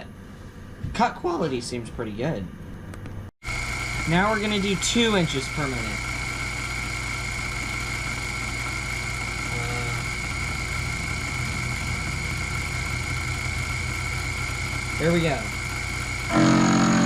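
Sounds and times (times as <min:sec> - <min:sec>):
mill high whine: 0:00.0 - 0:17.0
low hum: 0:02.6 - 0:17.0.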